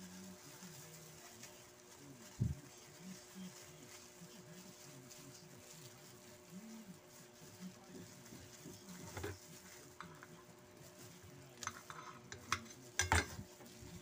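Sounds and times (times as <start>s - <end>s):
plastic glove rustling: 0.0s - 14.0s.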